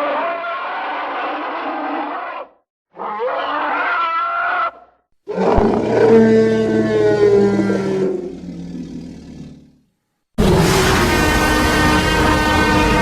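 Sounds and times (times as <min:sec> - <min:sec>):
creature roar: 0:00.0 - 0:09.7, 0:10.4 - 0:13.0.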